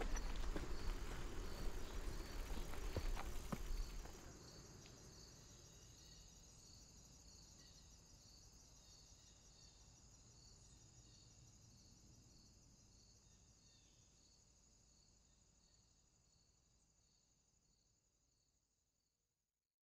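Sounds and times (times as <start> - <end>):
high insect trill: 0.0 - 16.5
crickets chirping: 0.0 - 18.5.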